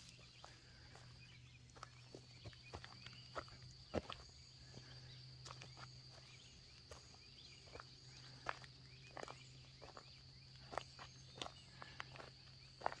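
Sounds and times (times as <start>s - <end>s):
footsteps on dirt path: 0.0s - 13.0s.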